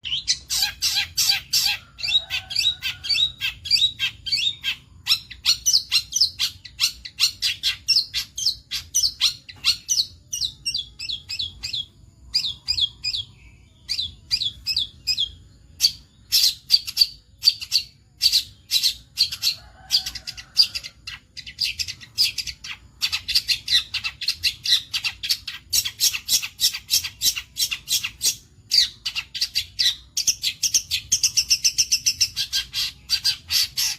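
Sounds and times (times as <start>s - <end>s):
bird chattering song: 0.0s - 33.9s.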